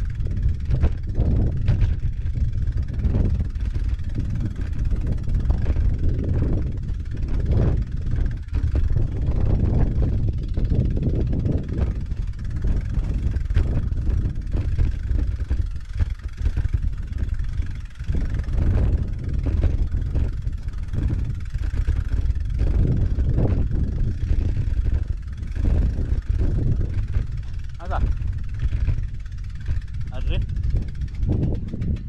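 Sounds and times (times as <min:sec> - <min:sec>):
bicycle rolling over bumpy grass: 0:00.0 - 0:32.0
wind buffeting microphone: 0:00.0 - 0:32.0.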